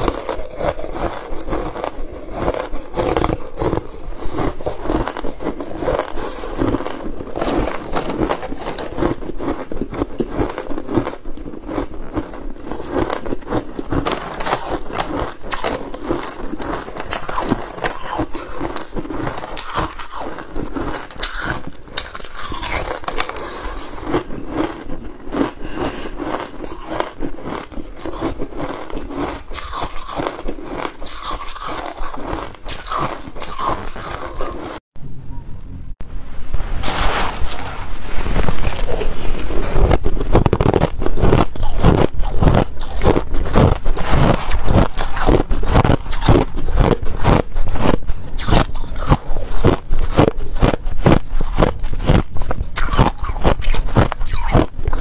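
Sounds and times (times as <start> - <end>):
ice crunching between teeth: 0.0 - 34.8, 36.8 - 55.0.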